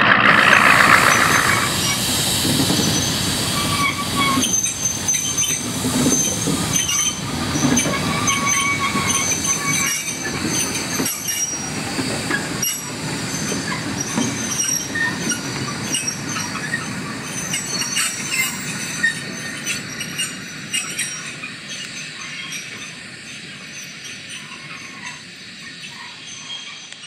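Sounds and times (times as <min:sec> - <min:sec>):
train running rumble: 0:00.0 - 0:27.0
wheels squealing on rails: 0:00.0 - 0:27.0.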